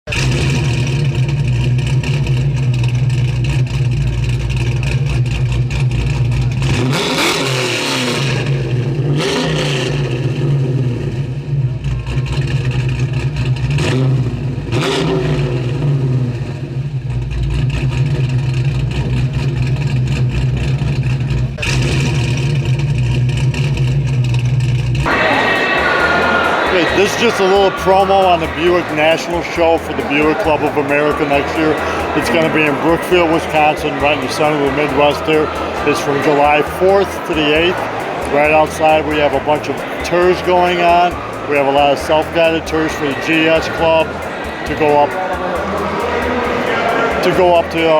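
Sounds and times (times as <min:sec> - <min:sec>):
car engine idling and revving: 0:00.0 - 0:25.1, 0:27.7 - 0:47.9.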